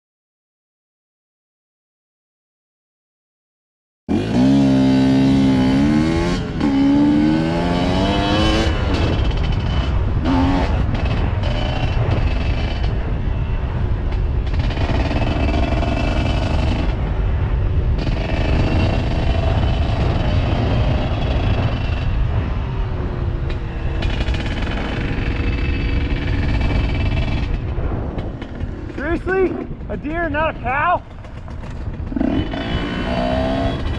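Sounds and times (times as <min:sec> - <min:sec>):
constant rush of noise: 0:04.1 - 0:33.9
dirt bike engine: 0:04.1 - 0:33.9.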